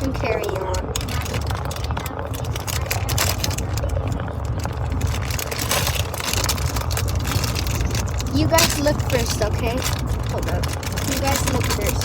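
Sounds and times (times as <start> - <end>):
car road noise rumble: 0.0 - 12.0
handling clicks and rustles: 0.0 - 12.0.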